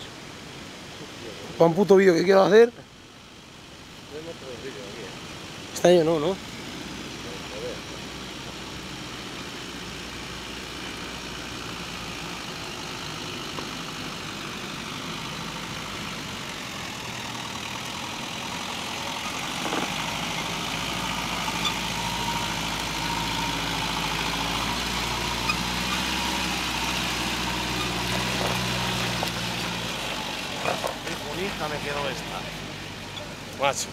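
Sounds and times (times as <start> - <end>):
off-road vehicle engine at low revs: 0.0 - 33.9.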